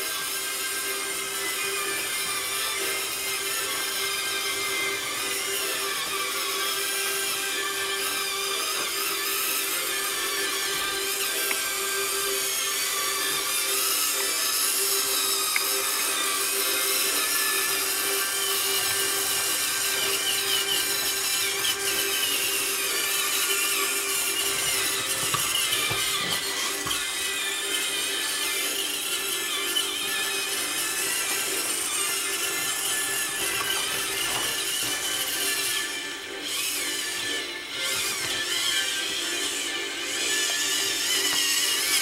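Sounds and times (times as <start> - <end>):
toy tractor motors whining: 0.0 - 42.0.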